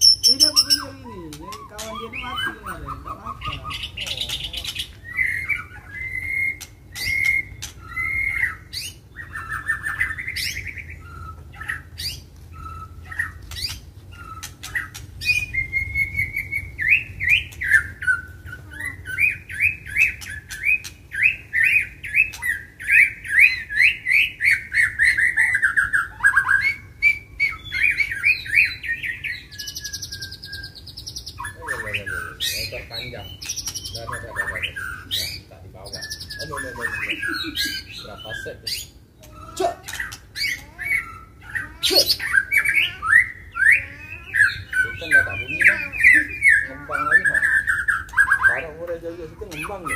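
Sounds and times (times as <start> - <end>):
songbirds singing chirps and whistles: 0.0 - 49.9.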